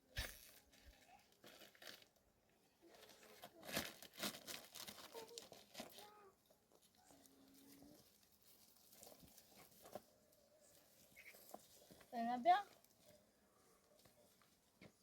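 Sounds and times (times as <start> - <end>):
rustling and crinkling: 0.0 - 15.0.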